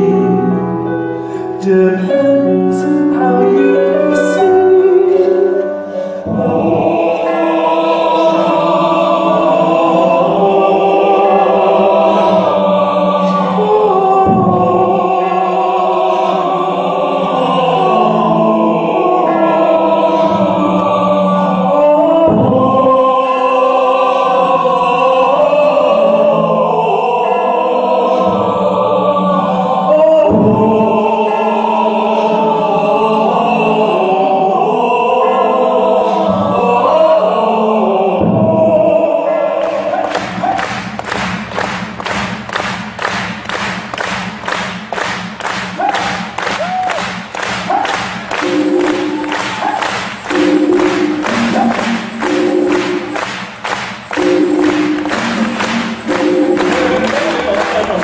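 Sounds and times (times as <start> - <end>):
choir singing wordless harmonies: 0.0 - 58.0.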